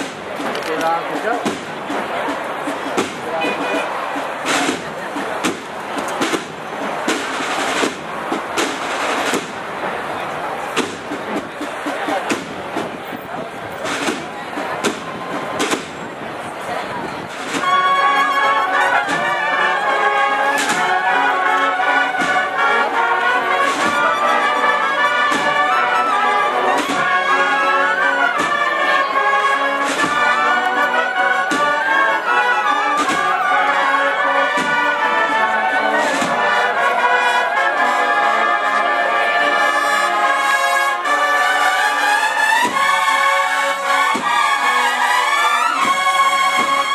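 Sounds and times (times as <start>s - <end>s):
cornet and drum band march: 0.0s - 46.9s.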